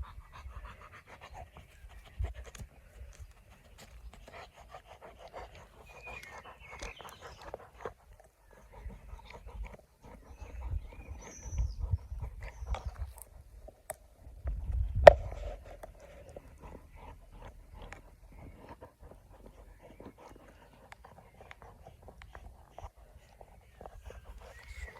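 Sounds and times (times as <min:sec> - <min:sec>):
dog panting rapidly: 0:00.0 - 0:13.1, 0:15.3 - 0:24.9.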